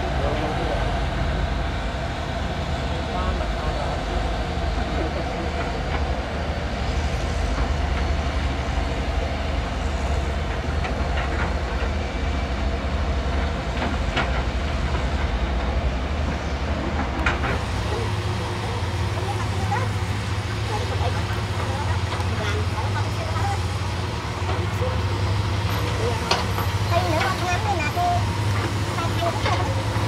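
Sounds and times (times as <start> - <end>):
excavator diesel engines rumbling: 0.0 - 30.0.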